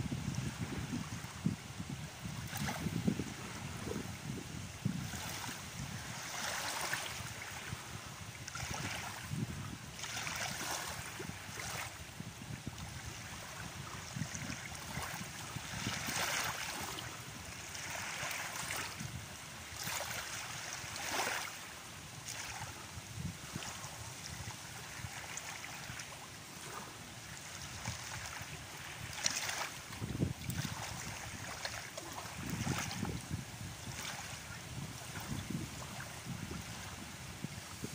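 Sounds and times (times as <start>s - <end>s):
small waves washing onto sand: 0.0s - 37.9s.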